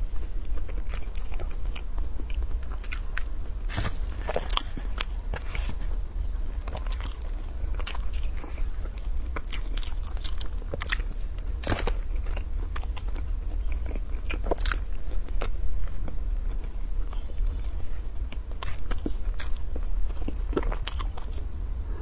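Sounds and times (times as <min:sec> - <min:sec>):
person chewing pastry: 0:00.0 - 0:22.0.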